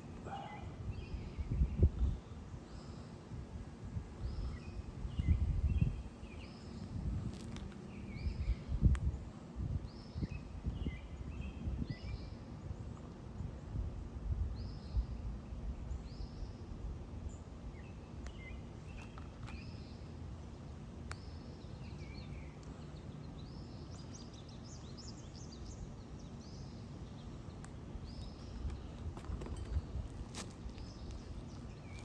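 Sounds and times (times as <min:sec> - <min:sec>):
small birds chirping: 0:00.0 - 0:03.4, 0:04.0 - 0:13.7, 0:14.5 - 0:32.0
low outdoor rumble: 0:00.0 - 0:32.0.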